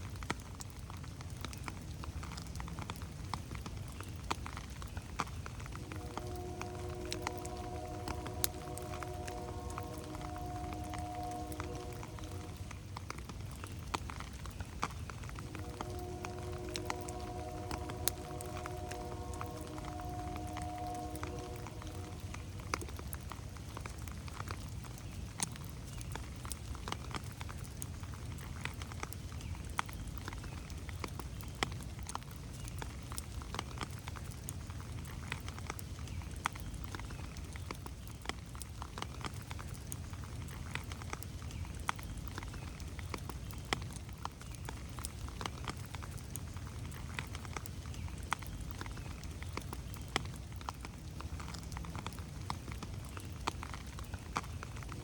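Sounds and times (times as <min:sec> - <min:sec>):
rain low rumble: 0:00.0 - 0:55.0
raindrops tapping: 0:00.0 - 0:55.0.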